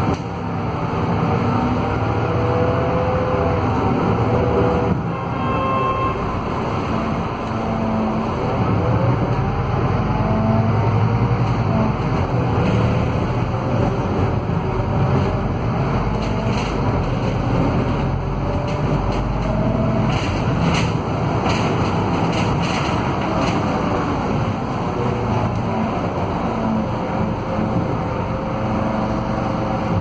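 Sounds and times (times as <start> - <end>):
bus diesel engine running: 0.0 - 30.0
road noise: 0.0 - 30.0.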